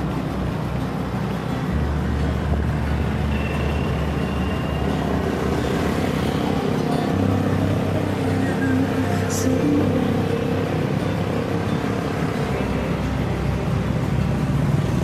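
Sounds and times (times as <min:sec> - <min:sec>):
passing traffic engine drone: 0:00.0 - 0:15.0.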